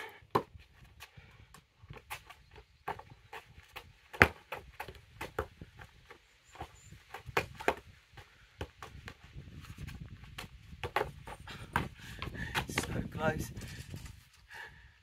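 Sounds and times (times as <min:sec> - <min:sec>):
footsteps and scuffs on paving: 0:00.0 - 0:14.4
football juggled off feet: 0:00.2 - 0:14.1.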